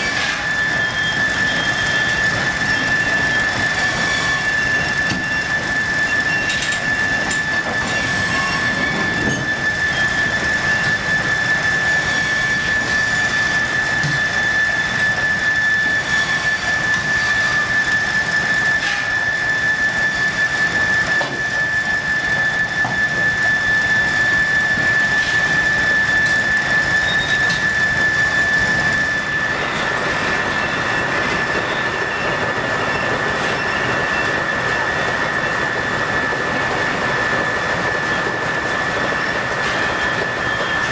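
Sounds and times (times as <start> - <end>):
sawmill machinery whining: 0.0 - 40.9.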